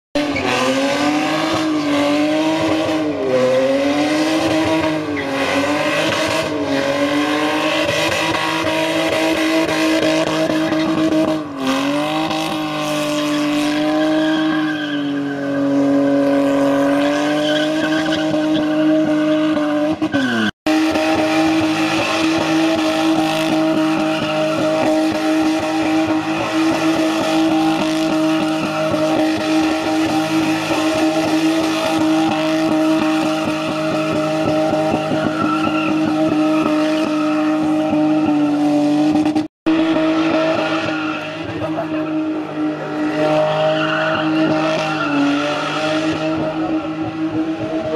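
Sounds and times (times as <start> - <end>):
car engine revving high: 0.2 - 47.9
tyres spinning and squealing: 0.2 - 47.9.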